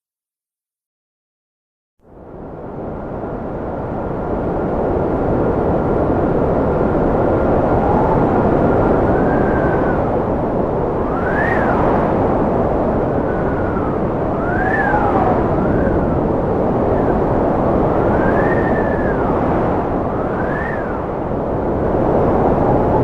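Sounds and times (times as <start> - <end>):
strong gusty wind howling: 2.0 - 23.0.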